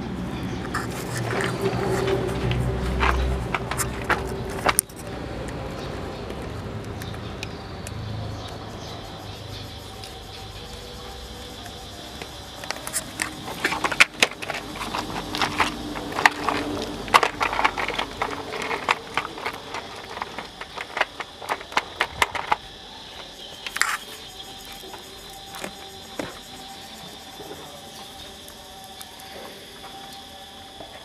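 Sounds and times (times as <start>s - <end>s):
toy truck clattering on gravel: 0.4s - 8.6s, 9.3s - 29.2s.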